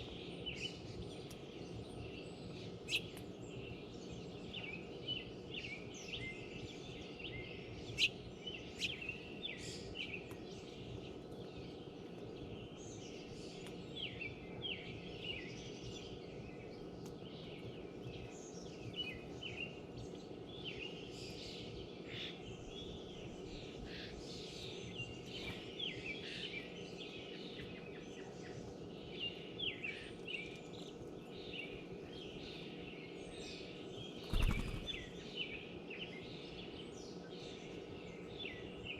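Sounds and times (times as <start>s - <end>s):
low background hum: 0.0s - 38.9s
songbirds chirping: 0.0s - 38.9s.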